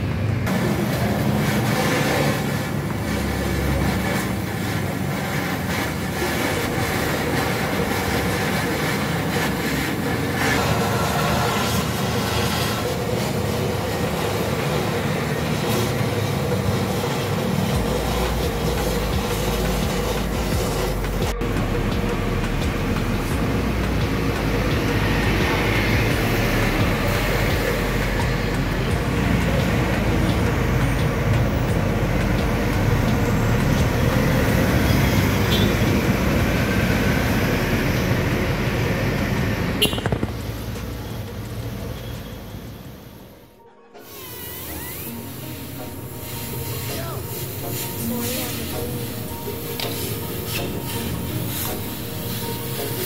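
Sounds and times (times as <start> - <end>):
welding torch flame hissing: 0.4 - 43.4, 44.0 - 53.0.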